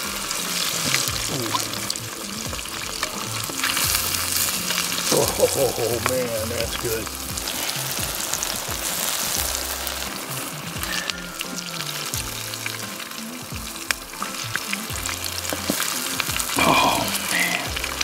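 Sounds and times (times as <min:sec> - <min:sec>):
fish frying in hot oil: 0:00.0 - 0:18.0
low background music: 0:00.0 - 0:18.0
oil popping: 0:00.0 - 0:18.0.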